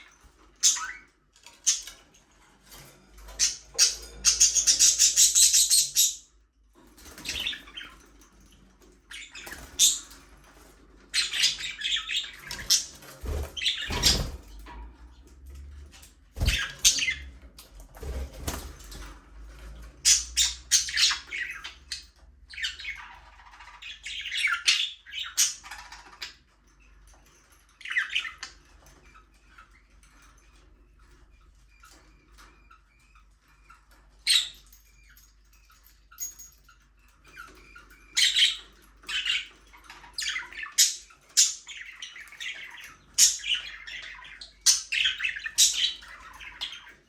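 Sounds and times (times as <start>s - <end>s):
budgerigars chirping and chattering: 0.0s - 47.0s.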